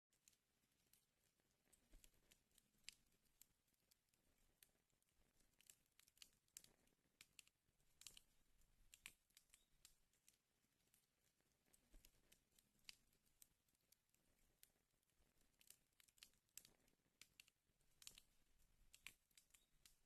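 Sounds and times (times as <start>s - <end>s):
sharp pops and snaps of fire: 0.2s - 20.0s
wood fire crackling: 0.2s - 20.0s.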